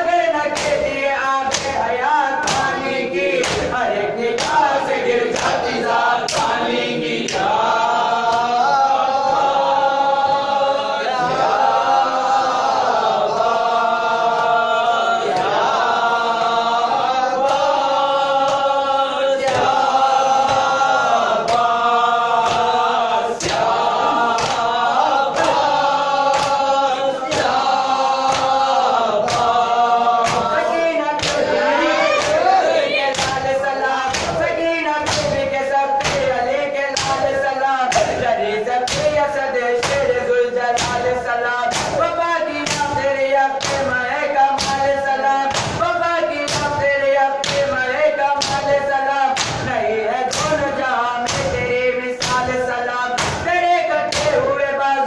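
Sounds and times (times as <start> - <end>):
men chanting in unison: 0.0 - 55.0
rhythmic chest-beating: 0.0 - 55.0.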